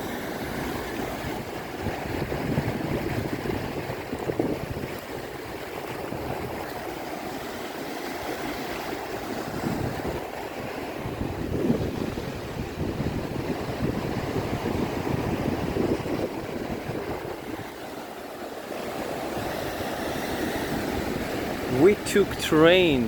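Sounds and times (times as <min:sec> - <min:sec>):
sea surf washing onto beach: 0:00.0 - 0:23.0.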